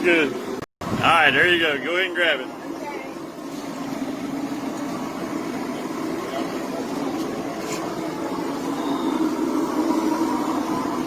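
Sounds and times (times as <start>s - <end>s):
forge droning: 0.0s - 11.0s.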